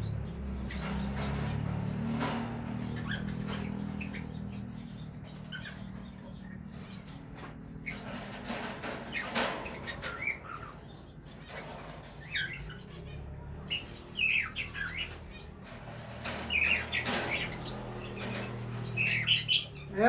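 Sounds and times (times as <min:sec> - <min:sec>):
small birds chirping and squawking: 0:00.0 - 0:20.0.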